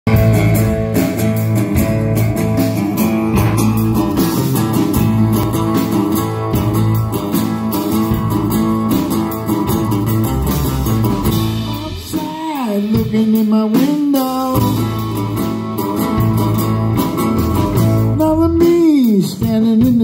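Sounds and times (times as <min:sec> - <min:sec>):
live band playing guitars: 0:00.0 - 0:20.0.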